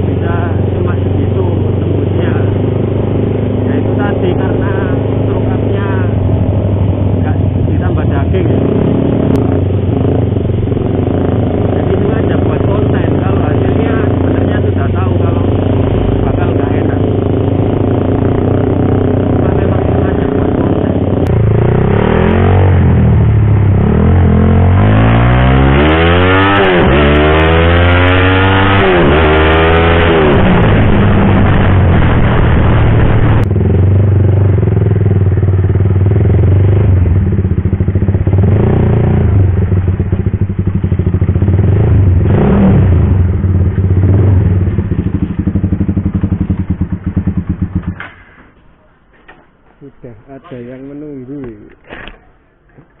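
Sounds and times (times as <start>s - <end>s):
motorcycle engine revving: 0.0s - 48.5s.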